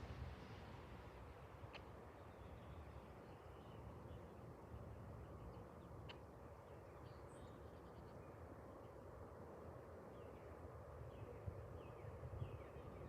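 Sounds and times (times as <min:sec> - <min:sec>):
faint outdoor hum: 0:00.0 - 0:13.0.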